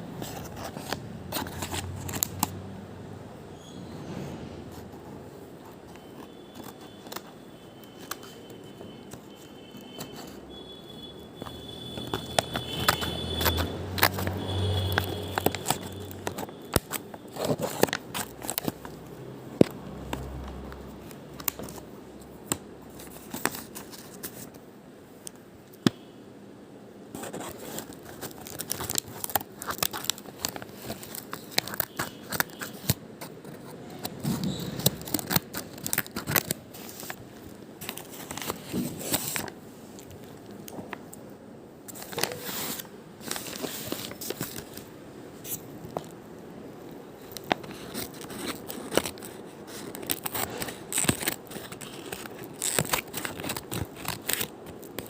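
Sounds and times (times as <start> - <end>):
packaging crinkling and tearing: 0.2 - 2.6, 5.8 - 24.6, 27.2 - 41.1, 41.9 - 44.9, 47.2 - 55.0.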